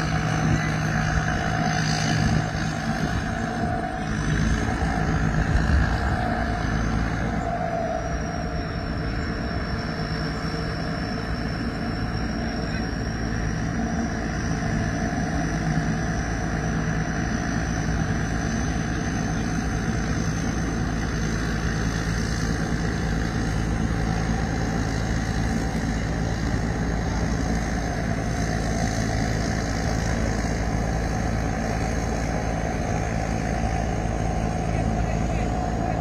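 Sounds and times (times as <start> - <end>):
combine harvester engine drone: 0.0 - 36.0.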